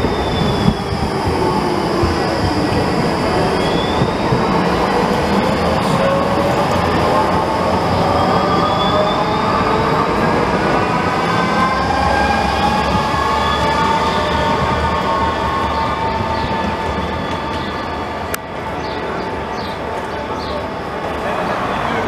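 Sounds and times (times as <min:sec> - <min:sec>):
tram motor whine: 0:00.0 - 0:22.0
tram wheels rumbling on rail: 0:00.0 - 0:22.0.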